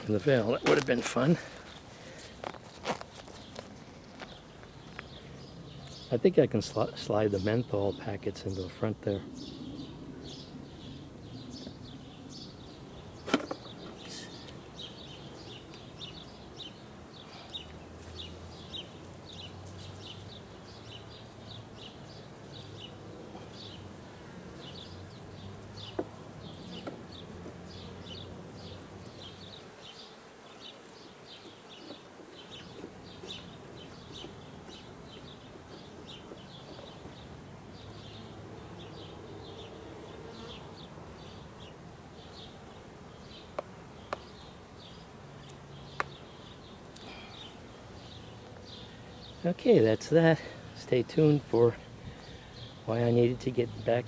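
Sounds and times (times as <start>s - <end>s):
bees buzzing: 9.2s - 54.0s.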